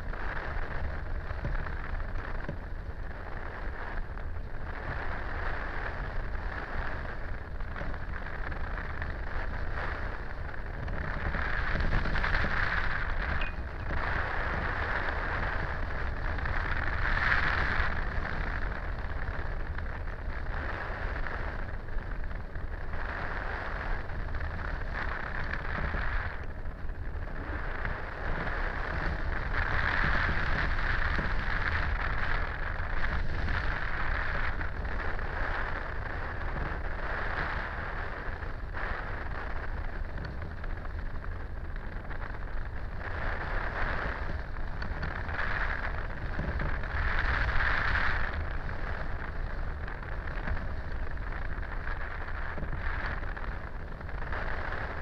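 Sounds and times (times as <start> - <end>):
wind rushing on microphone: 0.0 - 55.0.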